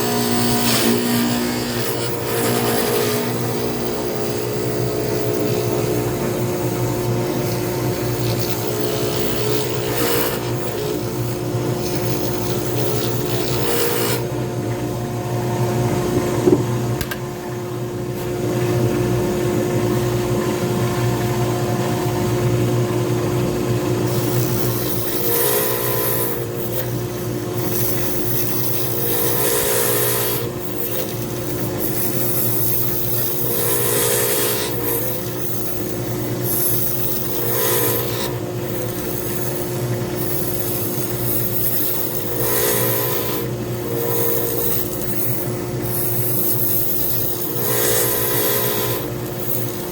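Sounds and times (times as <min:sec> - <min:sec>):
tool scraping spinning wood: 0:00.0 - 0:14.3, 0:24.1 - 0:49.9
lathe motor running: 0:00.0 - 0:17.2, 0:18.4 - 0:49.9.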